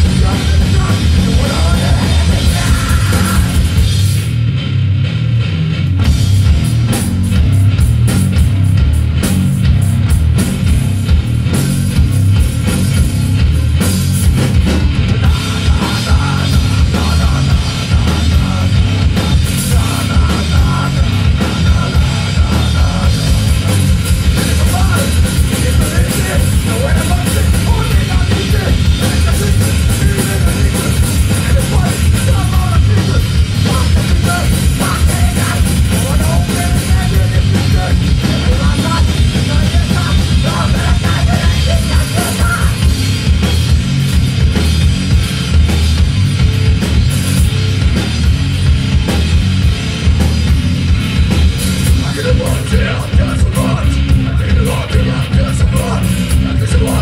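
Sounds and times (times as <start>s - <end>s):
punk rock band playing live: 0.0s - 57.0s.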